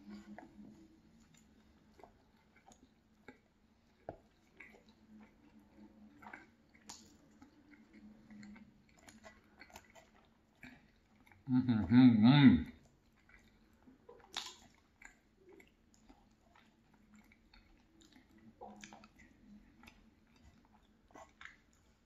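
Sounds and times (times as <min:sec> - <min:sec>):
faint chewing: 0:00.0 - 0:22.0.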